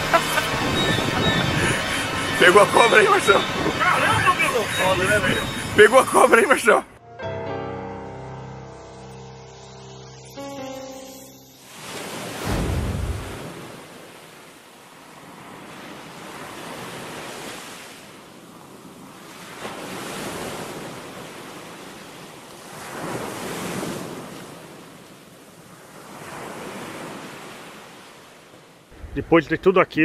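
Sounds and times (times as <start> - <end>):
sea waves surging: 0.0 - 7.0, 9.7 - 29.2.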